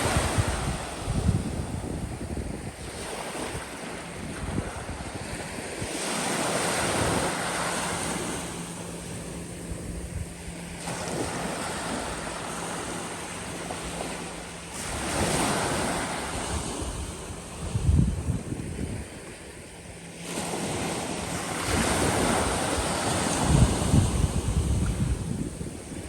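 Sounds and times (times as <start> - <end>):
waves washing onto beach: 0.0 - 26.0
wind buffeting microphone: 0.0 - 26.0.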